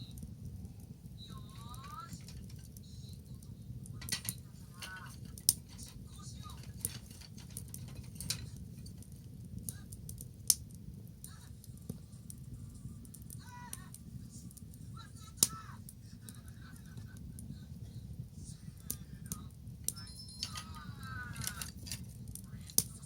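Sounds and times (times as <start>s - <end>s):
bonfire crackling and popping: 0.0s - 23.0s
low fire rumble: 0.0s - 23.0s.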